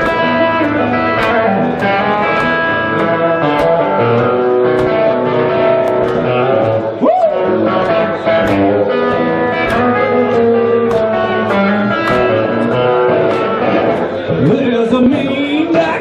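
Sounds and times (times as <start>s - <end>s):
drums: 0.0s - 16.0s
electric guitar bent notes: 0.0s - 16.0s
live blues-rock band: 0.0s - 16.0s.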